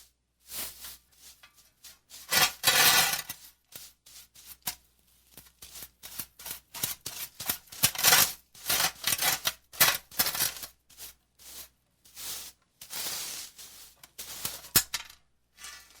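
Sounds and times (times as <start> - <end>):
whisk broom sweeping concrete: 0.0 - 16.0.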